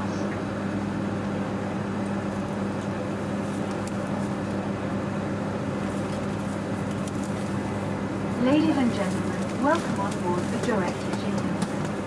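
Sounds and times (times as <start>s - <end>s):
constant low hum: 0.0s - 12.0s
train ride rumble: 0.0s - 12.0s.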